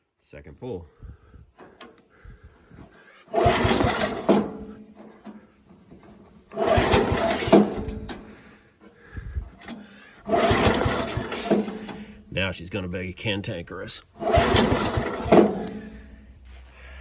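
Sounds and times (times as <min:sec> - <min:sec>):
lawn tractor engine surging: 0:02.8 - 0:17.0.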